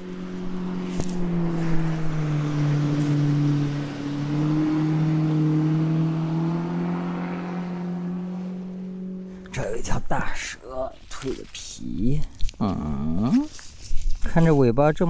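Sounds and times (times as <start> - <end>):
engine humming: 0.0 - 13.6.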